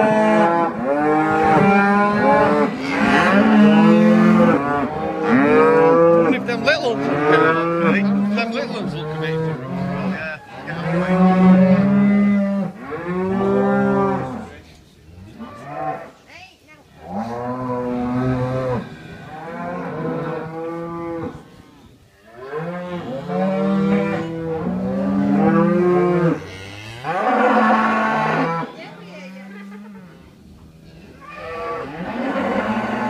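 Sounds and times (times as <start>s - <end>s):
cows mooing: 0.0s - 14.6s, 17.0s - 21.5s, 22.3s - 33.0s.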